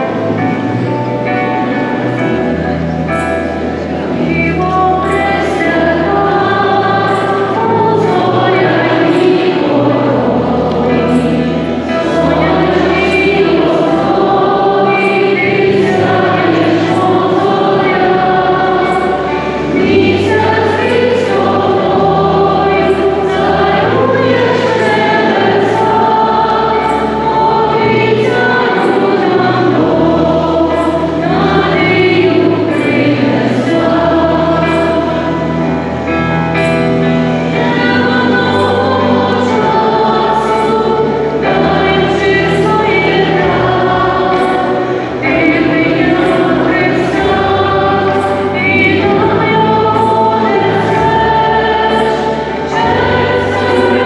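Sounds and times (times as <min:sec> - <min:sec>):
choir singing a hymn: 0:00.0 - 0:54.0
low accompanying notes: 0:00.0 - 0:54.0.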